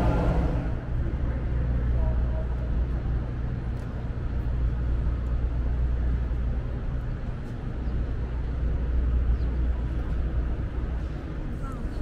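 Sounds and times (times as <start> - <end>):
city background noise: 0.0 - 12.0
low engine rumble: 0.0 - 12.0.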